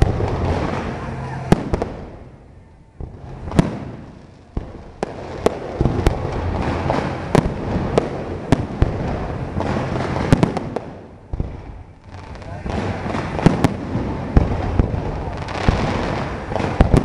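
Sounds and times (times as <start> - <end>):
fireworks booming: 0.0 - 17.0
steady rush of noise: 0.0 - 17.0.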